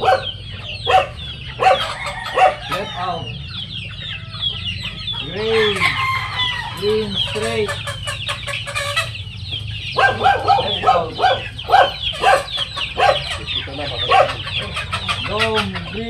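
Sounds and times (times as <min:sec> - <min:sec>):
chicken low calls: 0:00.0 - 0:16.0
chickens clucking rapidly: 0:00.0 - 0:16.0
chicks chirping: 0:00.0 - 0:16.0.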